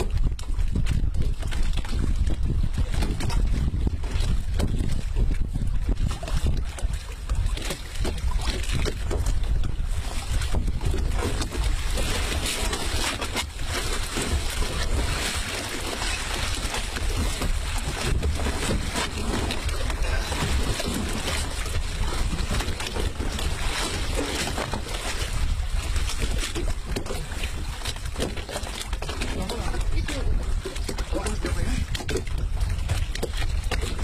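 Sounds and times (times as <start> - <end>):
wind buffeting microphone: 0.0 - 28.3, 29.0 - 34.0
water washing against boat: 0.0 - 34.0.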